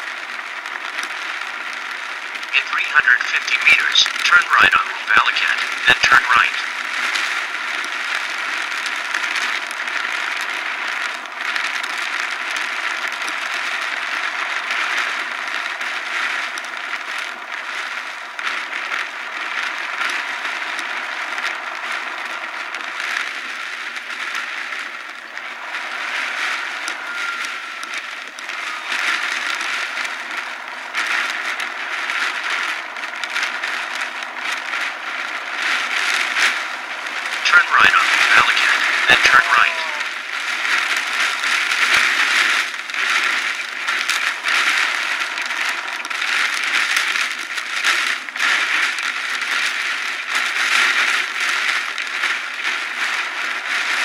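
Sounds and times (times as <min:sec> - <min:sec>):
heavy rain on a car: 0:00.0 - 0:54.0.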